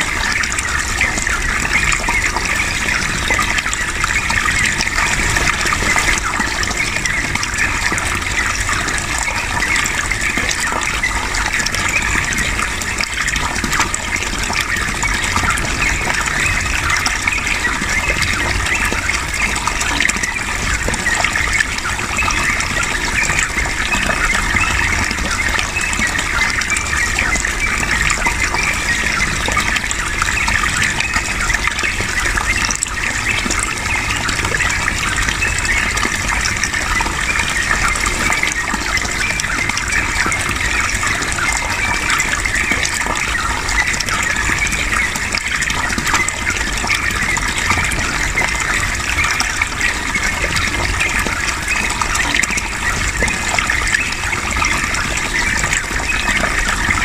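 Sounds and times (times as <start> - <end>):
running water stream: 0.0 - 57.0.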